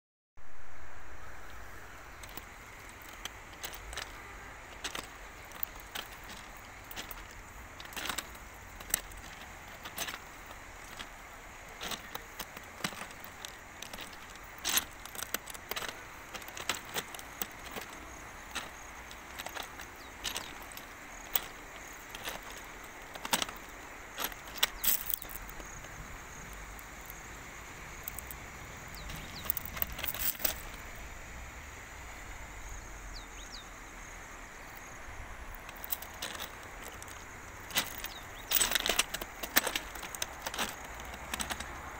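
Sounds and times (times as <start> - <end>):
background hiss: 0.4 - 41.9
footsteps crunching on stones: 1.4 - 31.0, 34.6 - 41.9.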